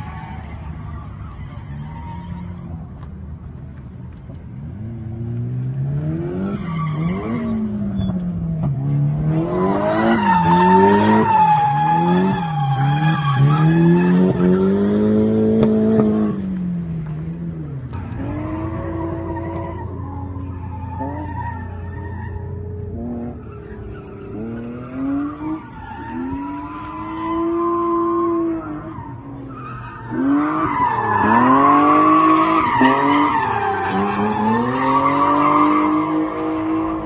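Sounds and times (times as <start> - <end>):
car engine revving: 4.1 - 37.0.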